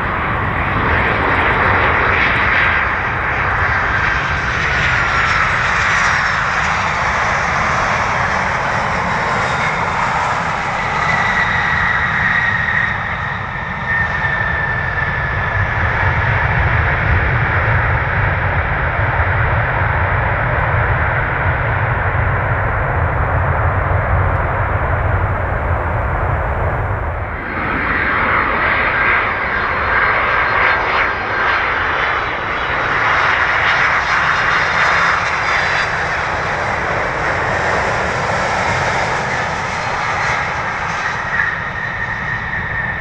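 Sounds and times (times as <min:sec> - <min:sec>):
jet airliner rumbling on runway: 0:00.0 - 0:43.0
jet engines rushing with whine: 0:00.0 - 0:43.0.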